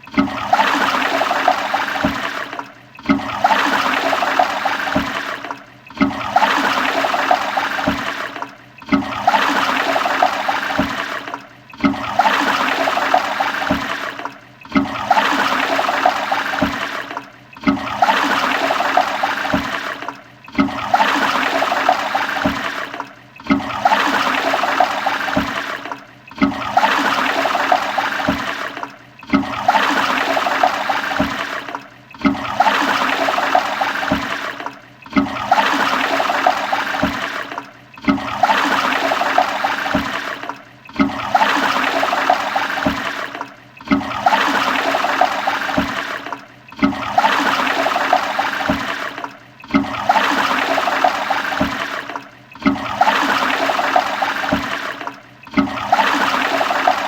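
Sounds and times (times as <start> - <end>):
toilet flushing: 0.0 - 57.0.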